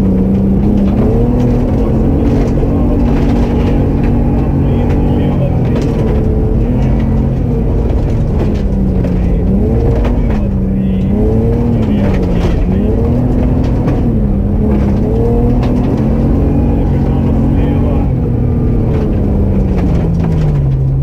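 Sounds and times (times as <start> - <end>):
car engine accelerating: 0.0 - 21.0
tyres rumbling on gravel: 0.0 - 21.0.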